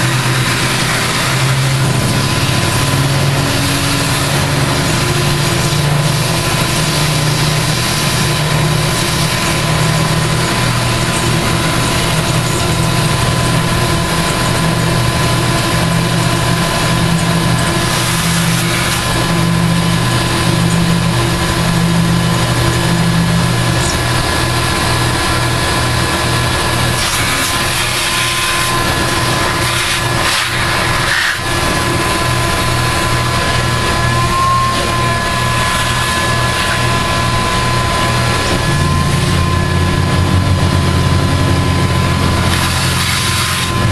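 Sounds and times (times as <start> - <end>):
high spindle whine: 0.0 - 43.9
milling machine cutting metal: 0.0 - 43.9.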